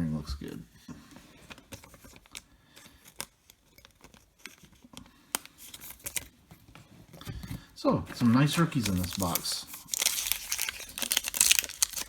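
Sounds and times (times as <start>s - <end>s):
cards snapping and rustling: 1.3s - 12.0s.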